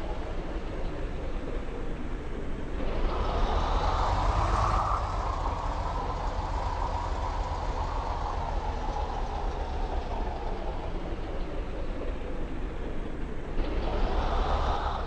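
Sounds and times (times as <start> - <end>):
heavy vehicle passing by: 2.7 - 15.0.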